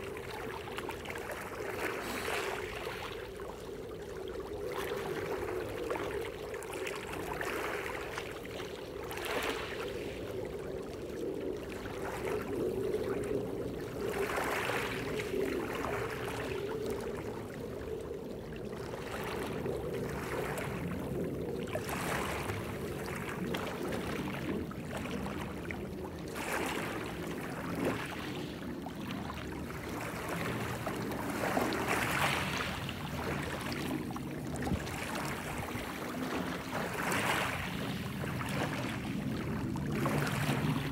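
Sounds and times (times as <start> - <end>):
waves washing ashore: 0.0 - 18.1, 18.8 - 40.9
faint steady hum: 0.0 - 40.9.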